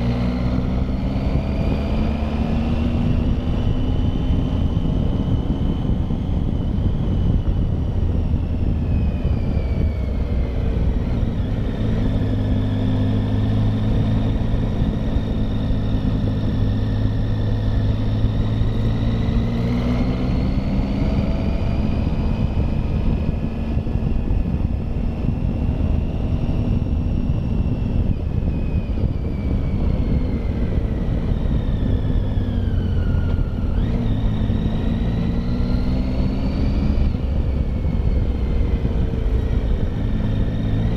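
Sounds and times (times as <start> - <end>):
wind rumble: 0.0 - 40.9.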